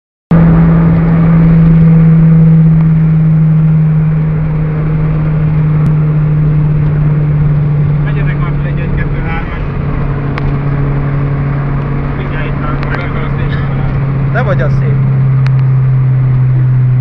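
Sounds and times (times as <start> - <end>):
car engine drone inside cabin: 0.3 - 17.0.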